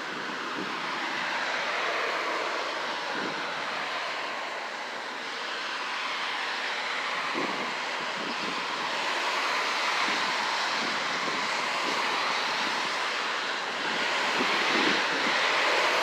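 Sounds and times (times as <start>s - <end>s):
storm wind rushing: 0.0s - 4.8s, 6.1s - 16.0s.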